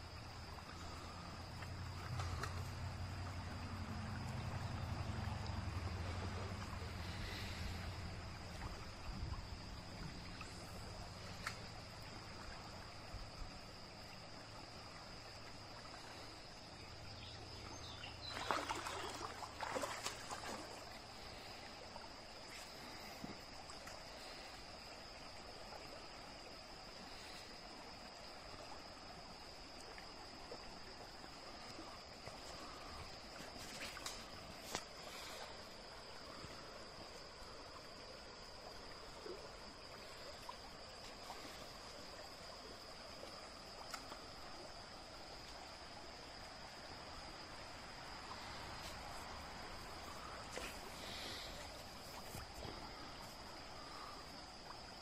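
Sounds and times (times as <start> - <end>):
stream trickling: 0.0 - 55.0
water splashes: 0.1 - 13.6, 17.4 - 27.5, 29.7 - 55.0.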